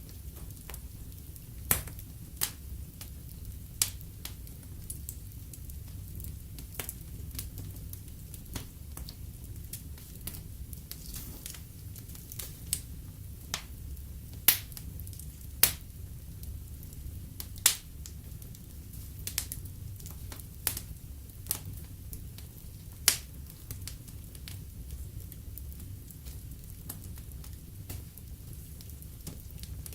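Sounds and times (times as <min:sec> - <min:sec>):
sharp pops of fire: 0:00.0 - 0:03.2, 0:03.8 - 0:15.9, 0:16.8 - 0:29.9
wood fire crackling: 0:00.0 - 0:29.9.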